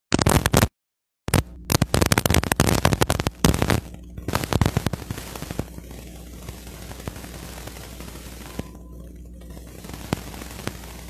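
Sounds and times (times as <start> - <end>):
crackling clicks and pops: 0.1 - 11.0
steady hiss: 1.7 - 11.0.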